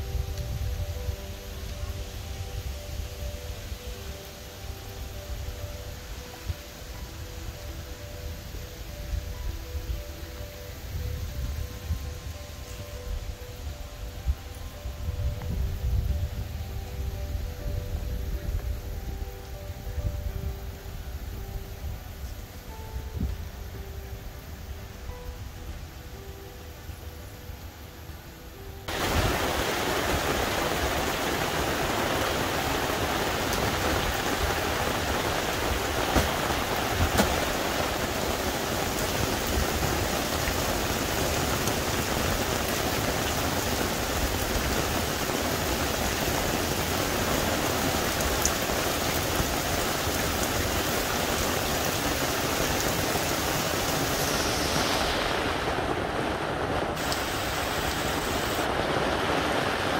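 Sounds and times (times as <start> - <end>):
rain falling on grass and trees: 0.0 - 59.9.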